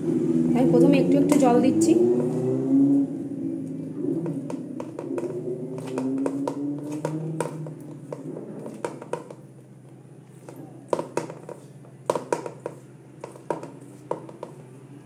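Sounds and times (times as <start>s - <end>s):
dough scraping metal bowl: 0.7s - 3.1s, 4.0s - 9.6s, 10.3s - 14.7s.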